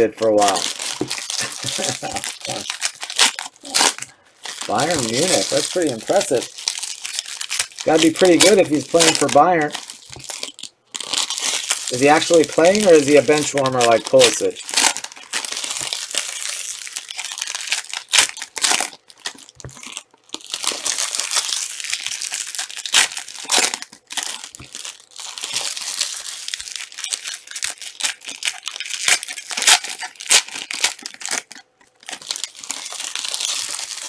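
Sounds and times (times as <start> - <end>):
card pack wrappers crinkling: 0.0 - 34.0.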